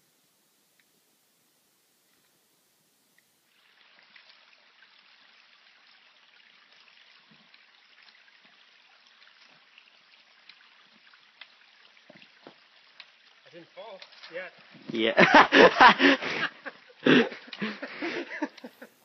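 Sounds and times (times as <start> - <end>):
stream water running: 0.0 - 19.0.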